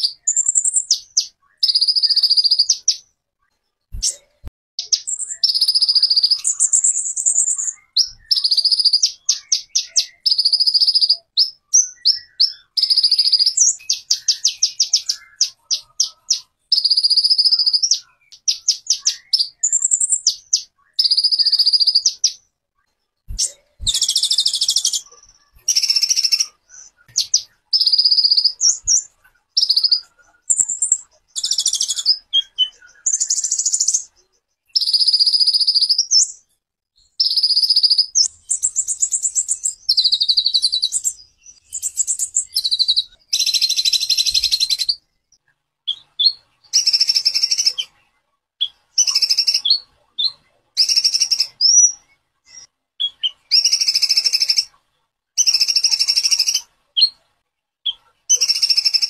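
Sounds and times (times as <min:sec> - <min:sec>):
songbird singing trills: 0:00.0 - 0:03.1, 0:03.9 - 0:54.8, 0:55.4 - 0:57.2, 0:57.8 - 0:59.0.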